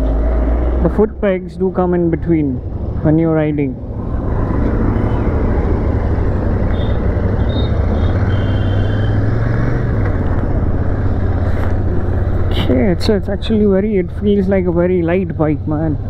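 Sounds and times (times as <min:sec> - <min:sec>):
road noise: 0:00.0 - 0:16.0
wind: 0:00.0 - 0:16.0.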